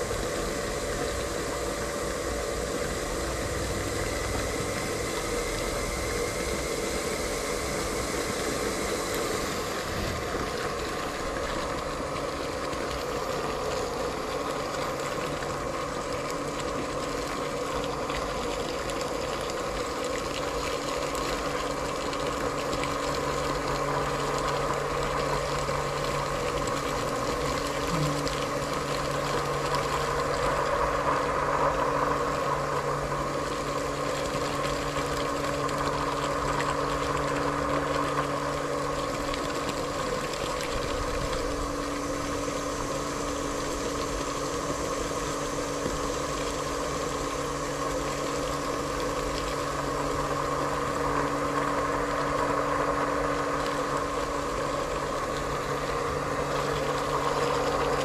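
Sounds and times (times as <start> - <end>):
water pump humming: 0.0 - 58.0.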